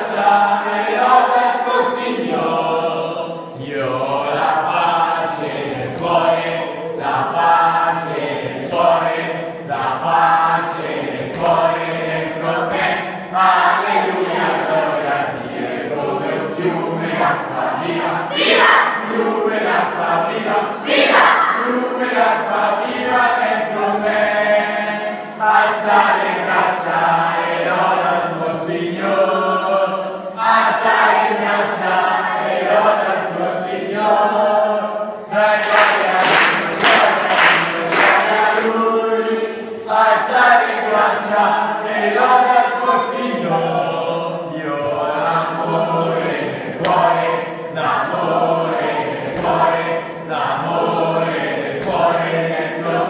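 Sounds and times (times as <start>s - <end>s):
children singing together: 0.0s - 53.0s.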